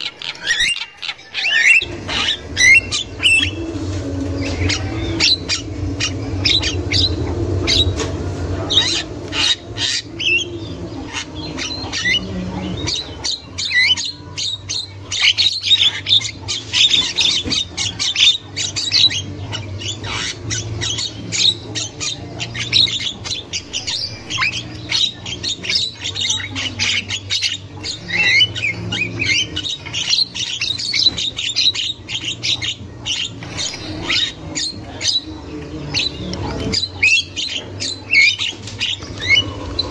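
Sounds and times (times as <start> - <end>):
bird chattering: 0.0 - 39.9
low steady hum: 0.0 - 39.9.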